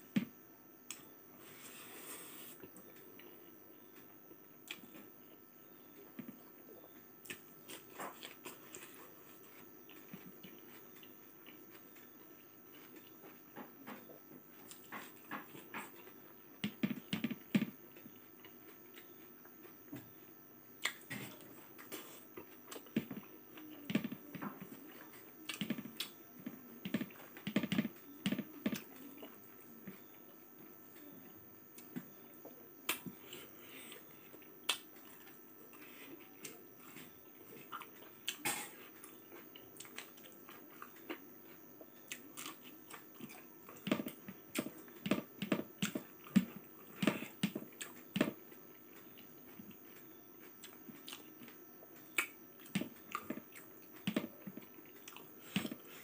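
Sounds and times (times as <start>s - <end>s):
man chewing food: 0.9s - 56.0s.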